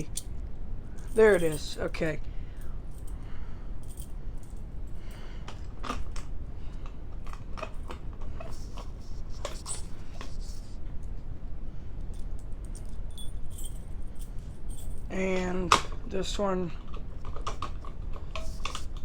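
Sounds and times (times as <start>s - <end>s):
keys clicking and rattling: 0.0s - 2.0s, 2.6s - 11.2s, 12.0s - 16.0s, 16.8s - 19.0s
low steady hum: 0.0s - 19.0s.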